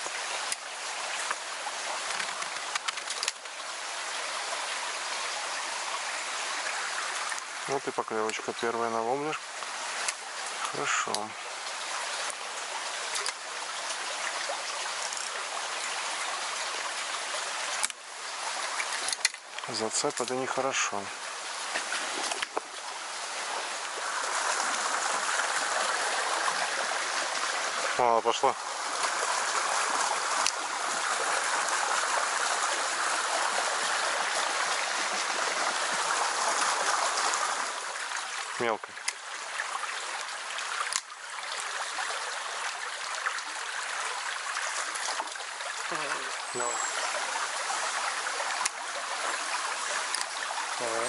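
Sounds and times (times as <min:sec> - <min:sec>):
creek water rushing: 0:00.0 - 0:51.0.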